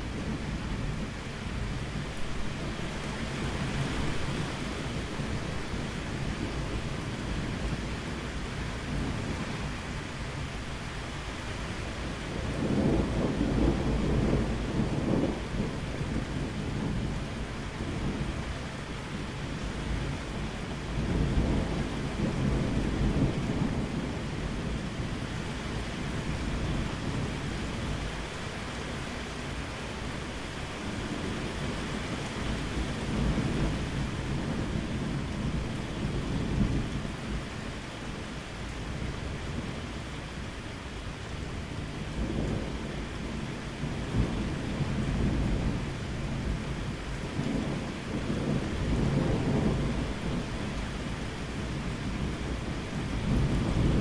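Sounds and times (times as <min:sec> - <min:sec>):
low rolling thunder: 0:00.0 - 0:54.0
steady rain: 0:00.0 - 0:54.0.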